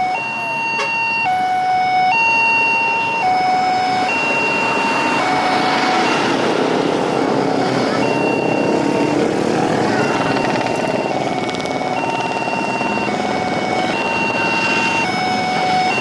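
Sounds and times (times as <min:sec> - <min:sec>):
two-tone hi-lo siren: 0:00.0 - 0:16.0.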